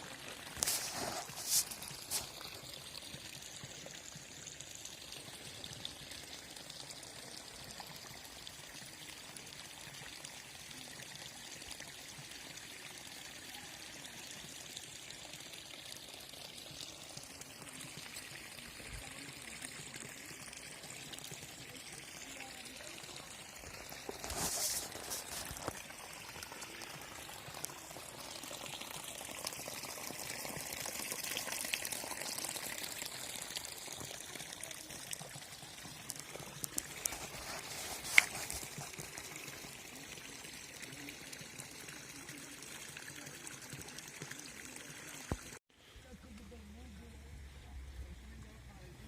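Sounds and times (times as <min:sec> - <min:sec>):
water pouring and trickling: 0:00.0 - 0:49.0.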